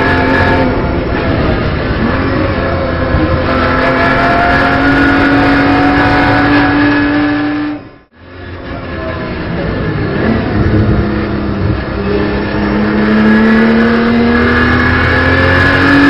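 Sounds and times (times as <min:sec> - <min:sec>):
car engine under load: 0:00.0 - 0:16.0.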